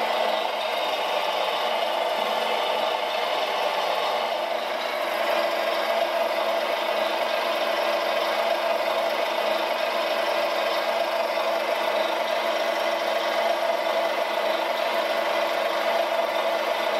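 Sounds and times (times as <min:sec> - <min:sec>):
toy loader motors whirring: 0:00.0 - 0:16.9.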